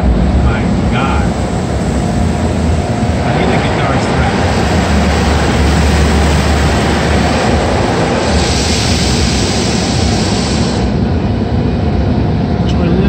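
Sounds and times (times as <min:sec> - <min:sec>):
car wash spray rushing: 0:00.0 - 0:11.3
low rumble: 0:00.0 - 0:13.0.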